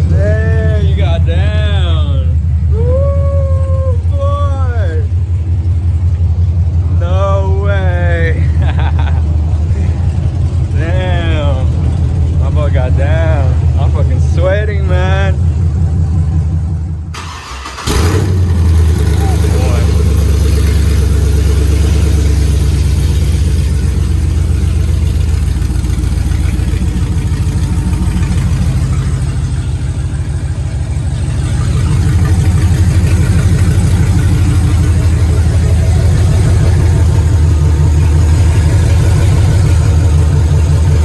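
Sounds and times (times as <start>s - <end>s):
loud car engine running: 0.0s - 41.0s.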